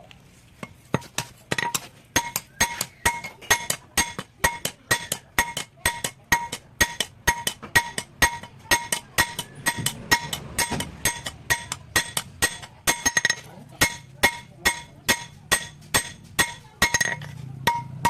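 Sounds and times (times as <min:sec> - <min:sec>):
hammer ringing on anvil: 0:01.0 - 0:18.0.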